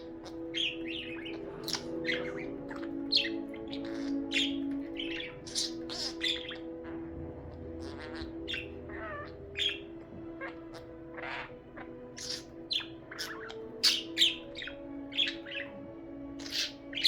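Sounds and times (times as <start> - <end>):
budgerigar chirping and squawking: 0.0 - 17.0.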